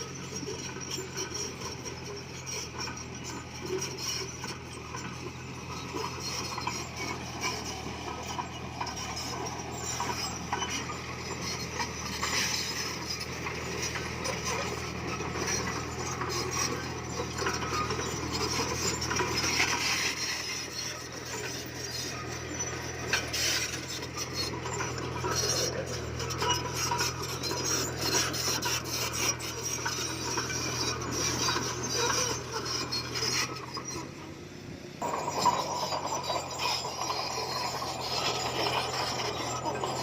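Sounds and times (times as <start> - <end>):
blade and tracks grinding stone: 0.0 - 34.4, 35.0 - 40.0
bulldozer diesel engine running: 0.0 - 40.0.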